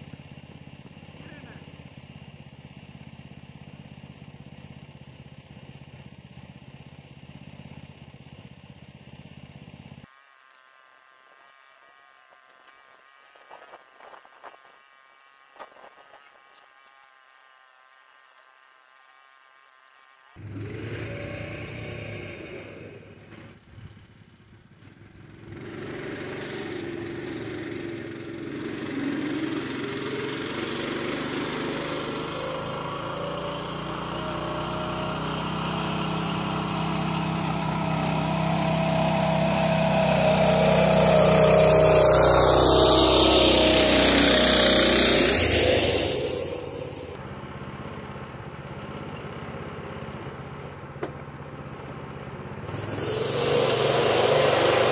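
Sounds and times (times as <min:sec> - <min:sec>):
small tractor engine passing: 0:00.0 - 0:10.9, 0:20.3 - 0:54.9.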